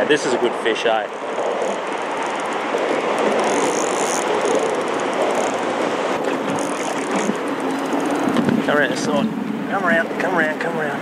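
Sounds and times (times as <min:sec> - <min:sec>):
road traffic on a bridge: 0:00.0 - 0:11.0.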